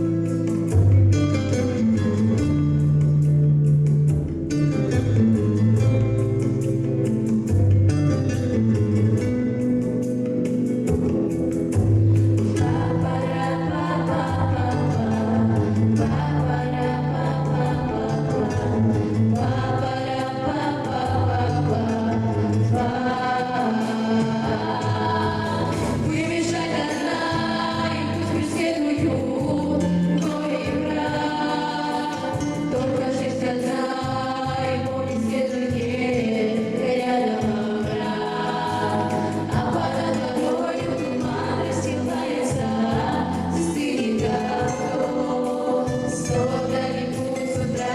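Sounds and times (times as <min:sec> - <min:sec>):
song with several singing voices: 0:00.0 - 0:04.0, 0:08.3 - 0:47.9.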